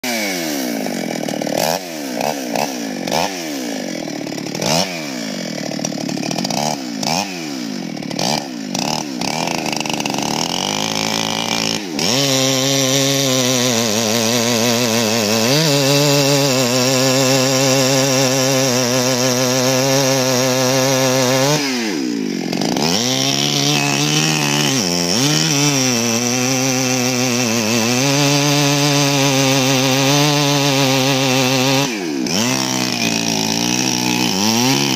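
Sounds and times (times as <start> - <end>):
chainsaw revving and cutting wood: 0.0 - 34.9.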